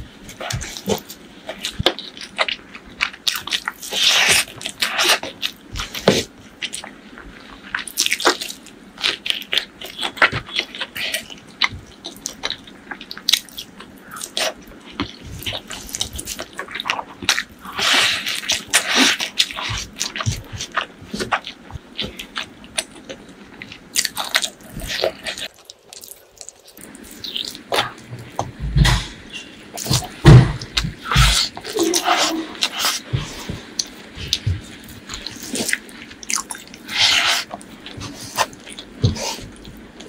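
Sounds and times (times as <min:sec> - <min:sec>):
person chewing wetly: 0:00.3 - 0:40.0.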